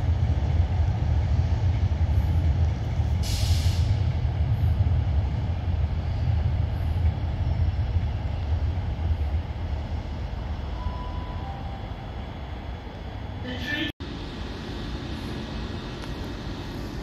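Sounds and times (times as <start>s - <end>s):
train engines droning: 0.0s - 17.0s.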